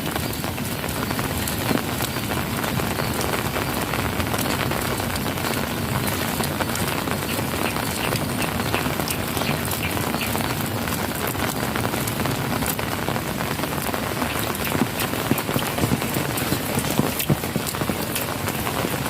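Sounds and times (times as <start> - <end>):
heavy rain splashing on puddles: 0.0 - 19.0.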